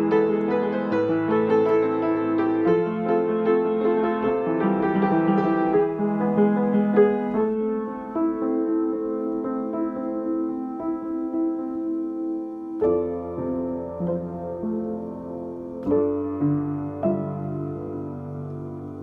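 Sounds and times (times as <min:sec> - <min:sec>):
gentle solo piano: 0:00.0 - 0:19.0.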